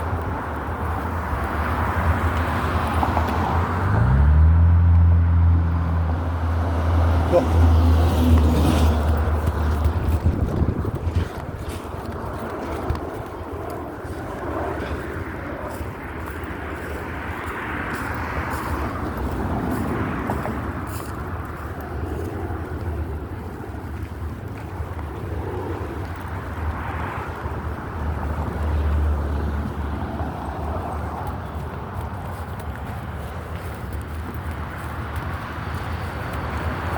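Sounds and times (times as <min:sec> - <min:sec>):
outdoor background noise: 0:00.0 - 0:36.9.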